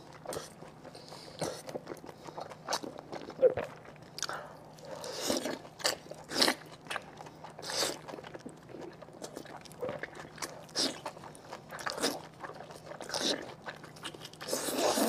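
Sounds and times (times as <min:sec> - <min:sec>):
person chewing: 0:00.1 - 0:15.0.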